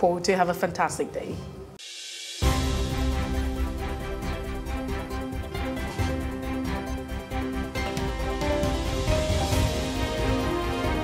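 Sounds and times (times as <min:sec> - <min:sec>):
news theme music: 0:01.8 - 0:11.0.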